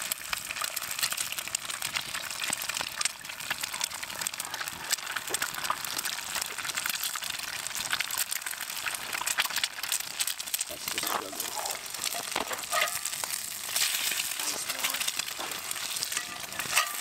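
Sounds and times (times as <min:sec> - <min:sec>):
eggs sizzling in hot fat: 0:00.0 - 0:17.0.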